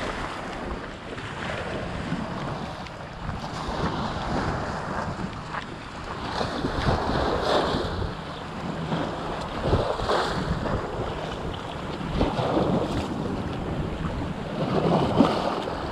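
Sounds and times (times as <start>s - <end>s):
waves splashing over rocks: 0.0s - 15.9s
wind buffeting microphone: 0.0s - 15.9s.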